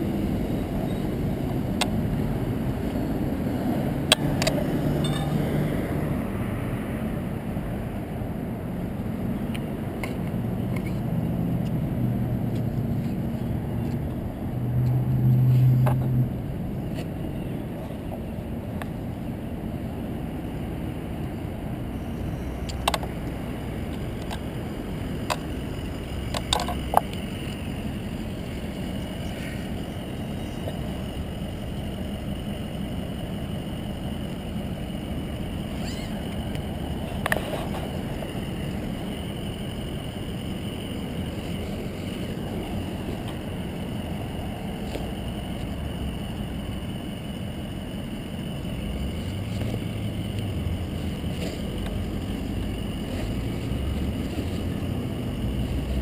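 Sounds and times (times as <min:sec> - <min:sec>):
wind and bicycle road rumble: 0:00.0 - 0:56.0.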